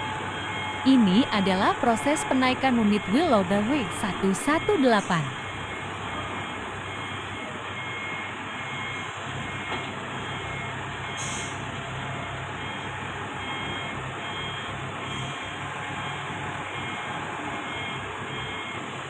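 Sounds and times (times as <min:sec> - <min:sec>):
warning alarm beeps: 0:00.0 - 0:19.0
wheel loader diesel engine: 0:00.0 - 0:19.0.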